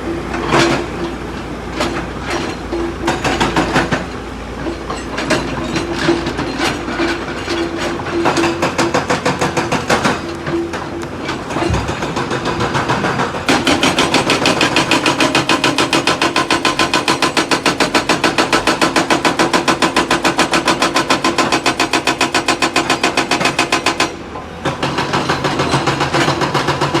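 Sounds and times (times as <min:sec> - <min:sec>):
hydraulic rock breaker hammering stone: 0:00.0 - 0:27.0.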